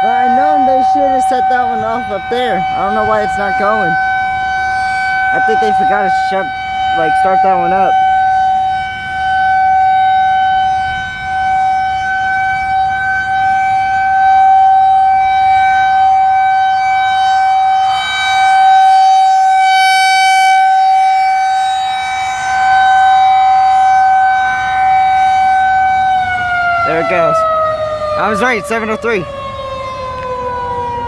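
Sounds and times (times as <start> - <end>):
warning siren steady tone: 0.0 - 31.0.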